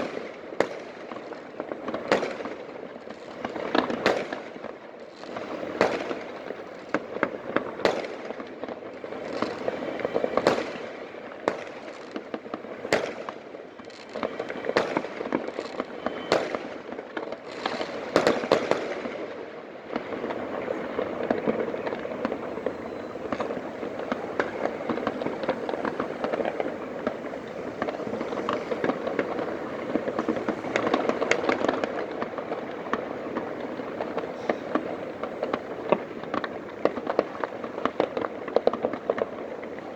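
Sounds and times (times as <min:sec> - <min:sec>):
firecracker pops: 0:00.0 - 0:01.2, 0:03.3 - 0:04.6, 0:05.3 - 0:08.6, 0:09.2 - 0:19.3, 0:19.9 - 0:39.7
fireworks crackling: 0:00.0 - 0:39.9.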